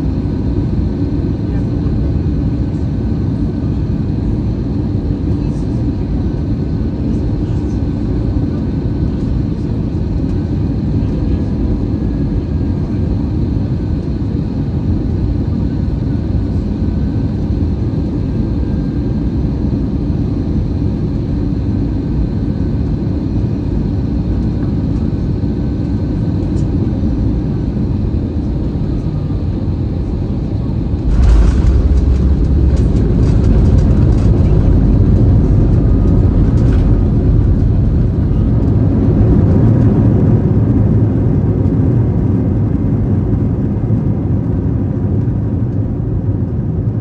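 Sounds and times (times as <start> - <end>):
airplane cabin roar: 0.0 - 47.0.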